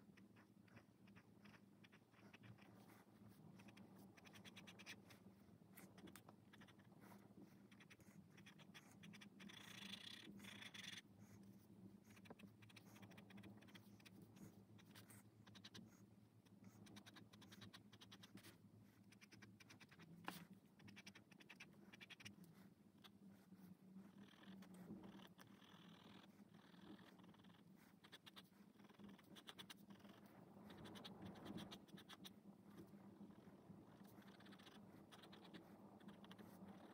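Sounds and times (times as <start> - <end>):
pen scratching on paper: 0.1 - 36.9.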